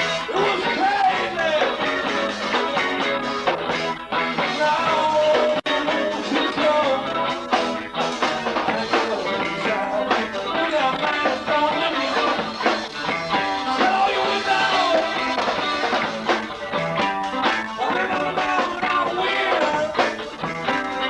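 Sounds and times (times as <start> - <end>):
band playing: 0.0 - 21.0
guitar lines: 0.0 - 21.0
steady drum beat: 0.0 - 21.0.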